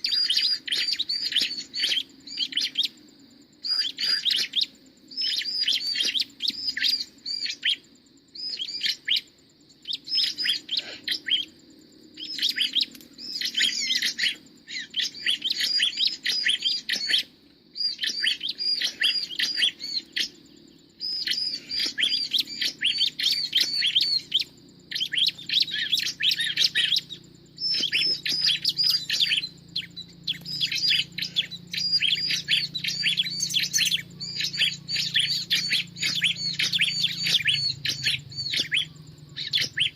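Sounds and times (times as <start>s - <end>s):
small bird singing: 0.0s - 39.9s.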